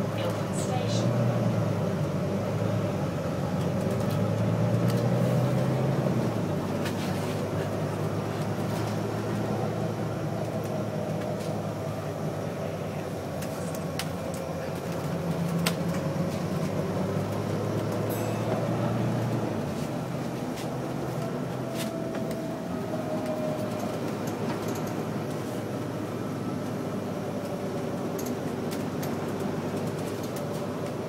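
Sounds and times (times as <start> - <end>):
bus engine humming: 0.0 - 31.0
road noise: 0.0 - 31.0.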